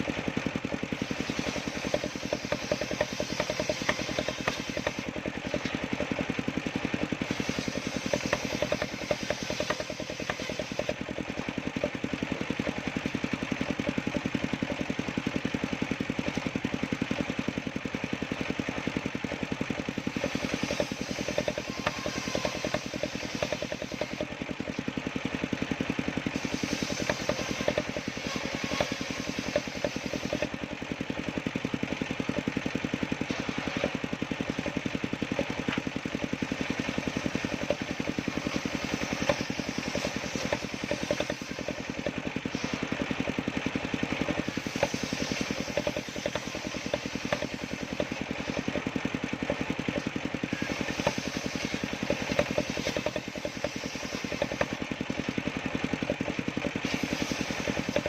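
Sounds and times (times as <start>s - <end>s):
wood saw engine running: 0.0s - 58.0s.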